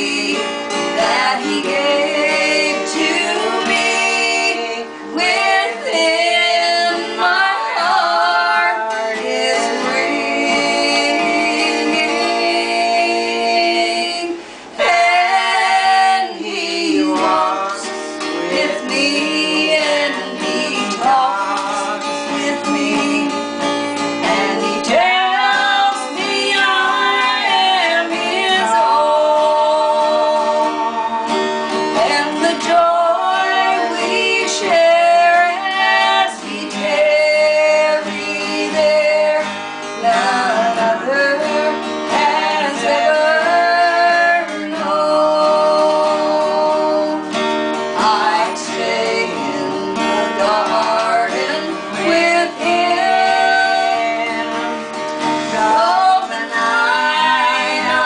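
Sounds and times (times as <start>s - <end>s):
strummed acoustic guitar: 0.0s - 58.0s
women singing a hymn: 0.0s - 58.0s.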